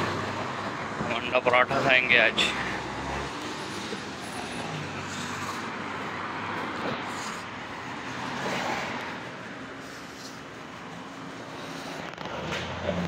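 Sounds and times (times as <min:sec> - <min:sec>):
passing cars hum: 0:00.0 - 0:13.0.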